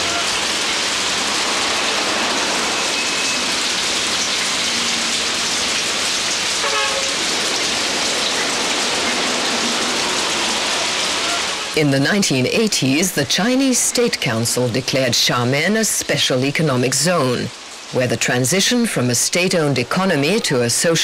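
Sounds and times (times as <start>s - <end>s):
heavy rain on pavement: 0.0s - 21.0s.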